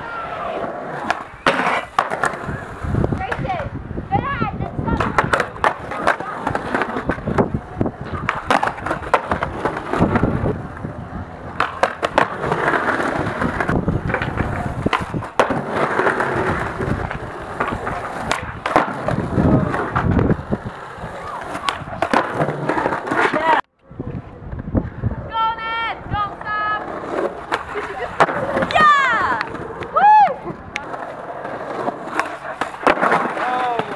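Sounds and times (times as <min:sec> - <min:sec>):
skateboard wheels rolling on concrete: 0:00.0 - 0:33.9
skateboard clacks: 0:00.4 - 0:03.7, 0:04.5 - 0:24.2, 0:26.3 - 0:33.9.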